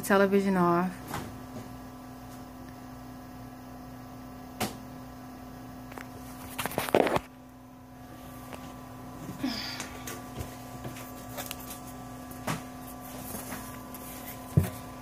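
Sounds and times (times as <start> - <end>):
television cooling fan hum: 0.0 - 15.0.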